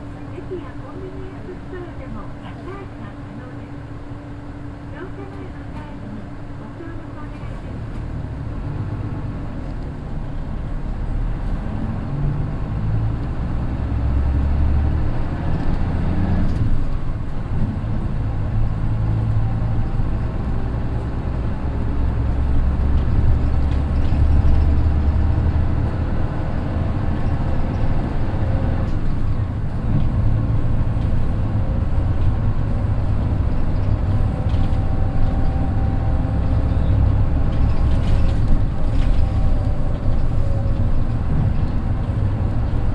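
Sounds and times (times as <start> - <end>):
diesel bus engine revving: 7.8 - 42.9.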